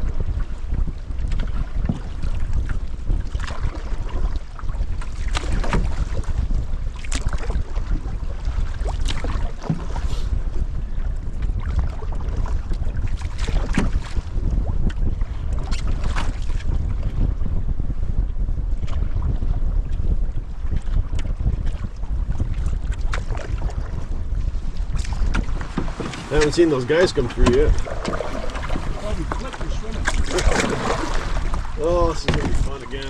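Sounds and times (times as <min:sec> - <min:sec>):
waves slapping hull: 0:00.0 - 0:33.0
wind buffeting microphone: 0:00.0 - 0:33.0
paddle splashes: 0:01.2 - 0:10.4, 0:11.4 - 0:17.1, 0:20.6 - 0:33.0.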